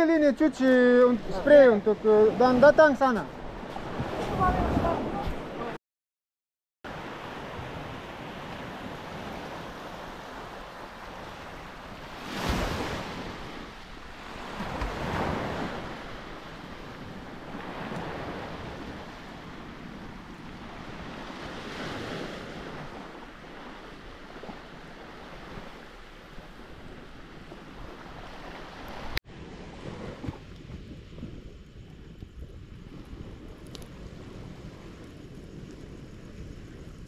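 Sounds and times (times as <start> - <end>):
sea waves breaking on beach: 0.0 - 5.8, 6.9 - 31.9.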